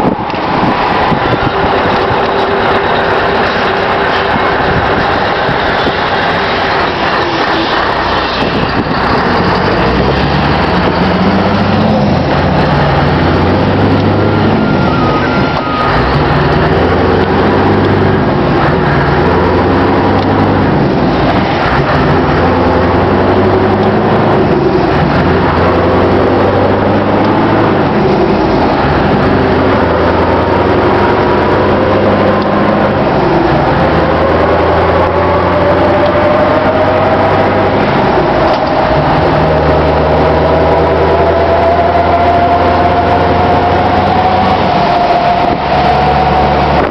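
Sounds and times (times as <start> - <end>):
truck diesel engine driving: 0.0 - 46.9.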